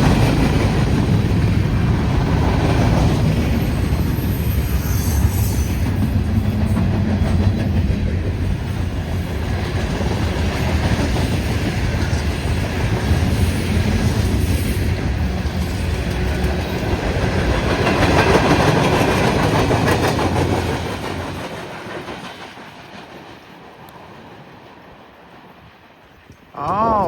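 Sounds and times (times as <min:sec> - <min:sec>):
freight train wheels on rails: 0:00.0 - 0:26.6.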